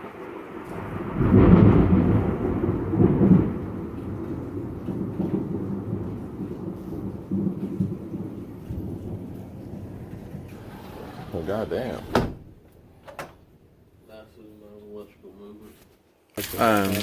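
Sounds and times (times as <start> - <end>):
thunder rumbling: 0.0 - 14.0.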